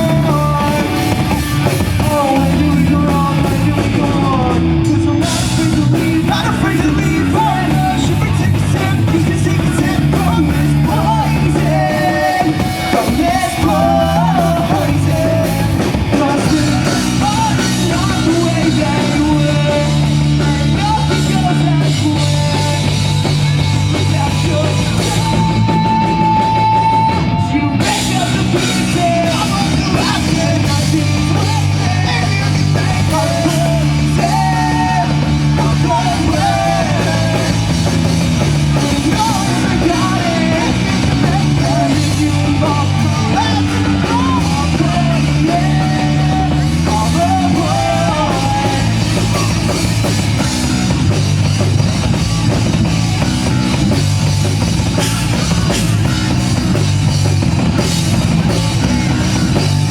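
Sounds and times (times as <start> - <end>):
bass guitar: 0.0 - 59.9
drum kit: 0.0 - 59.9.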